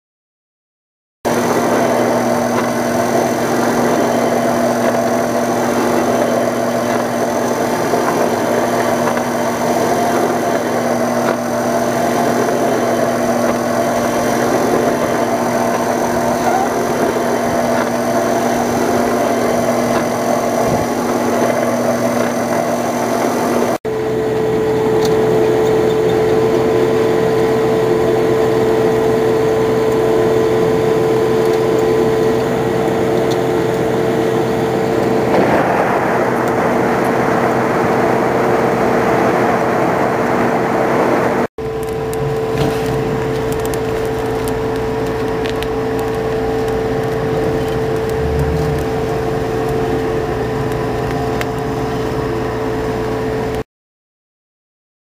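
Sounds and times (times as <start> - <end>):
rushing air and flame: 1.3 - 25.5, 28.5 - 53.5
machine hum: 1.3 - 53.6.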